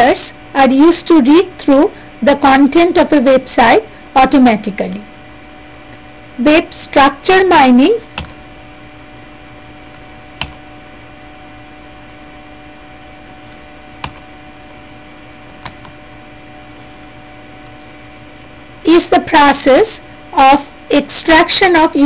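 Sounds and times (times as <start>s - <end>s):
electrical hum and hiss: 0.0s - 22.0s.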